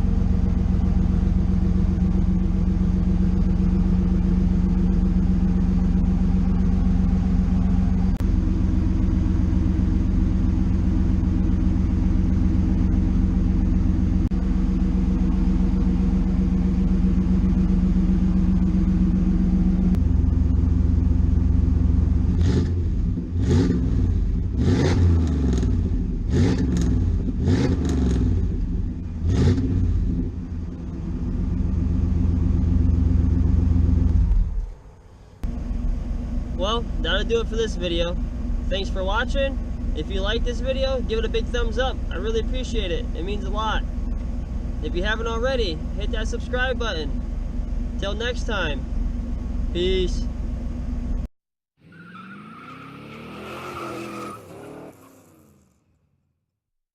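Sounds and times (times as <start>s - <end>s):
car engine idling and revving: 0.0s - 56.2s.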